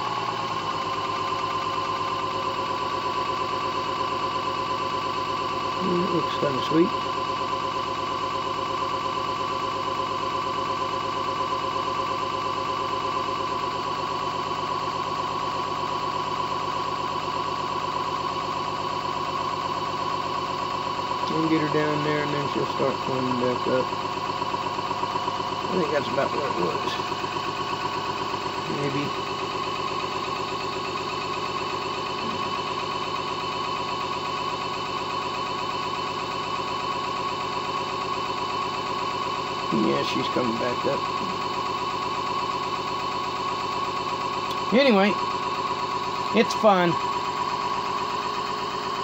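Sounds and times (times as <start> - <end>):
motor driven generator whining: 0.0 - 49.0.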